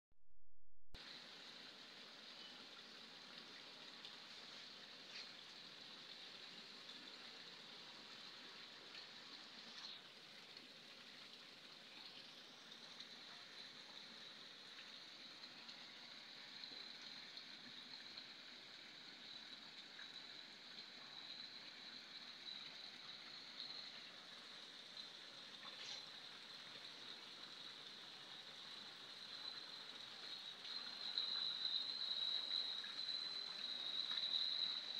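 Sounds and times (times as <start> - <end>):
fountain water splashing: 1.0 - 34.9.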